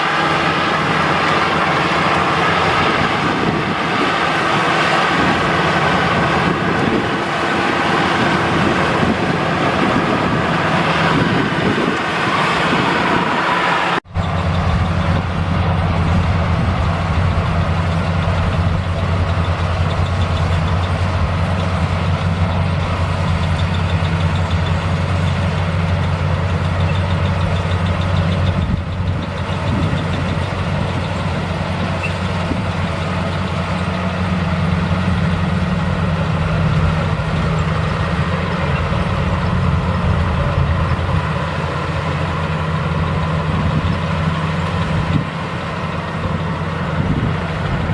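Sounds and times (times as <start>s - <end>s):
combine harvester engine running: 0.0s - 47.9s.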